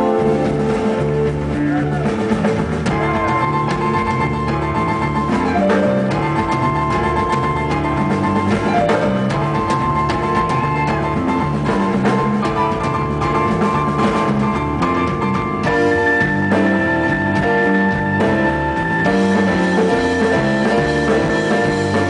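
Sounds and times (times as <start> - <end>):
blues-rock band playing: 0.0 - 22.0
drum kit: 0.0 - 22.0
guitar bent notes: 0.0 - 22.0.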